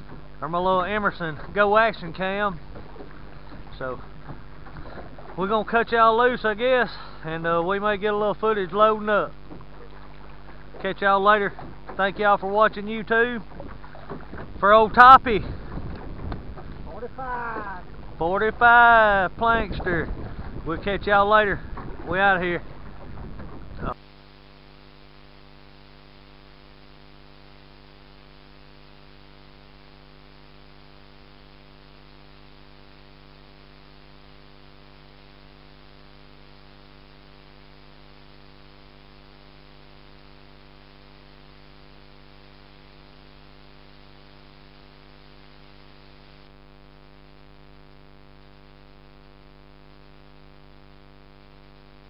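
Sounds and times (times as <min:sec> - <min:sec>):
electrical hum: 0:00.0 - 0:52.0.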